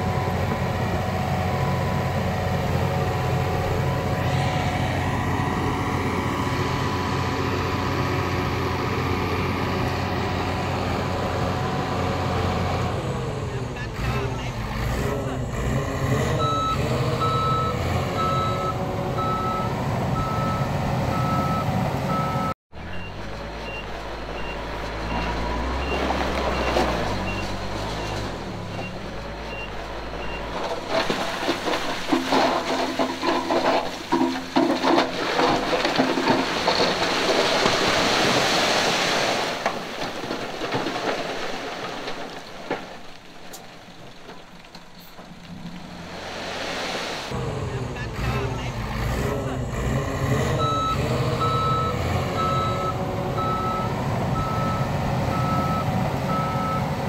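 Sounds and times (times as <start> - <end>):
diesel engine running: 0.0 - 38.3, 47.3 - 57.0.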